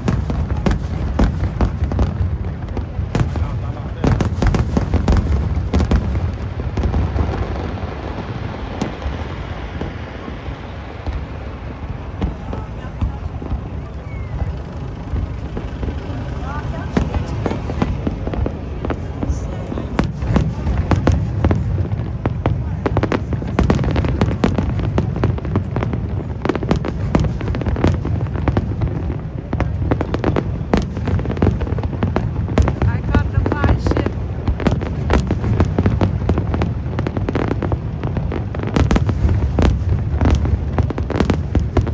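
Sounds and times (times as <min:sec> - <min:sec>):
fireworks bangs: 0:00.0 - 0:41.9
low rumble of booms: 0:00.0 - 0:41.9.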